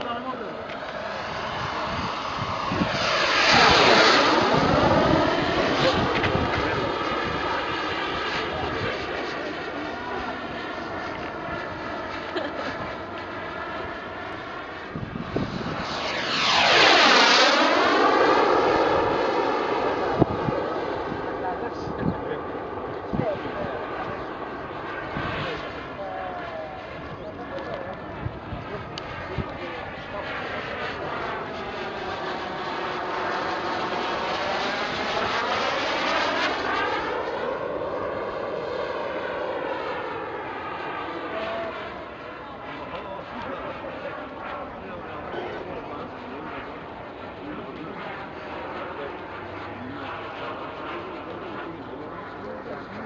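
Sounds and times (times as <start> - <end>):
model jet turbine whine: 0.0 - 53.0.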